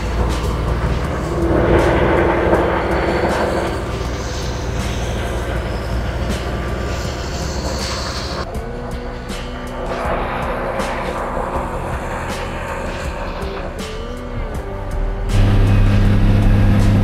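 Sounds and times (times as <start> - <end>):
farm machinery engines running: 0.0 - 17.0.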